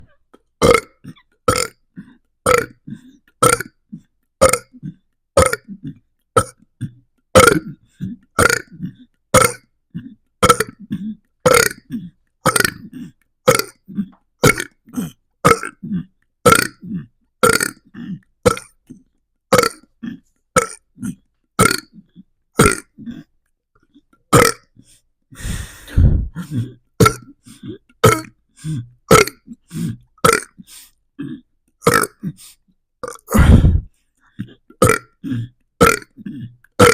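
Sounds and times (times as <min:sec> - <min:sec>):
person burping: 0:00.0 - 0:23.3, 0:24.3 - 0:32.4, 0:33.0 - 0:36.9.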